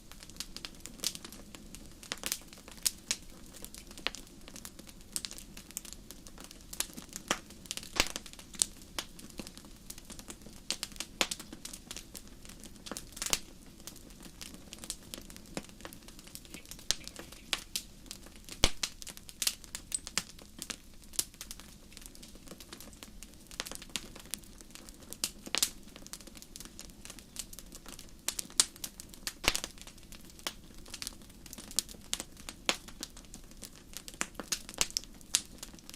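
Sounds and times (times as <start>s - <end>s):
hiss of burning logs: 0.0s - 35.9s
wood fire crackling: 0.0s - 35.9s.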